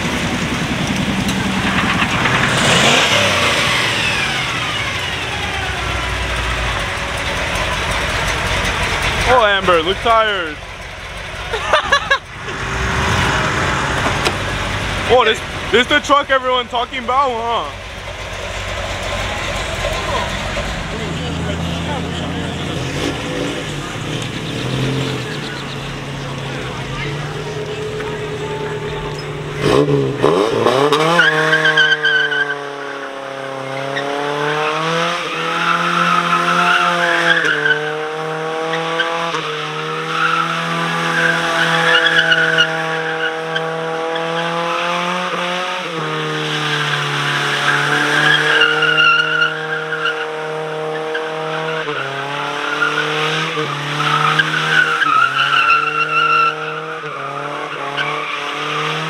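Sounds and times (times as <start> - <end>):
engine revving hard: 0.0 - 8.1, 11.8 - 17.6, 19.2 - 59.0.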